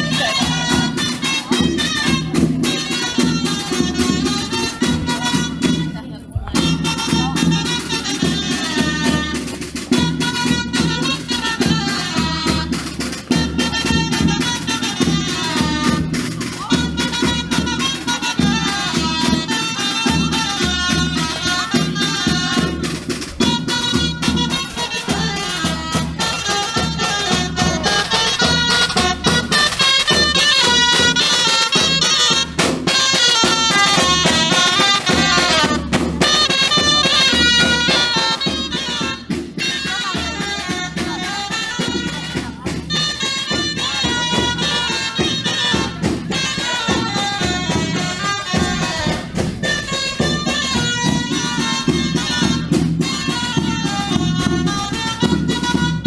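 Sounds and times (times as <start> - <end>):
reedy wind instrument melody: 0.0 - 56.0
steady drum beat: 0.0 - 56.0.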